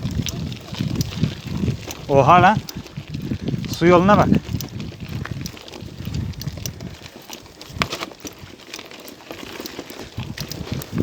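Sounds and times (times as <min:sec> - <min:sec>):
bicycle tyres crunching over stones: 0:00.0 - 0:11.0.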